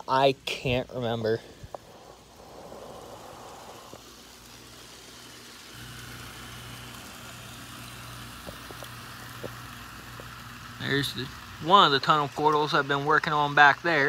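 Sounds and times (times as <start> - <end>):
model train motor hum: 1.5 - 14.0.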